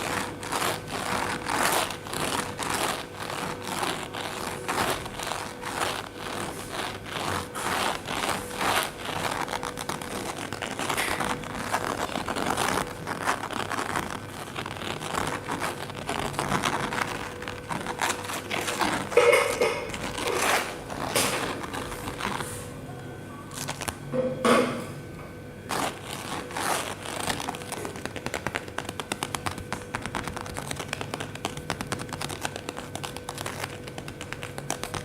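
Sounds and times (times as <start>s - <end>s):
kittens' claws scratching: 0.0s - 22.7s, 25.7s - 35.0s.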